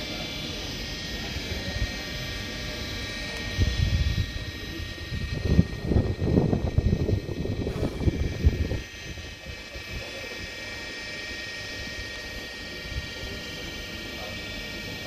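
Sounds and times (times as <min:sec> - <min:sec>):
high electric whine: 0:00.0 - 0:15.0.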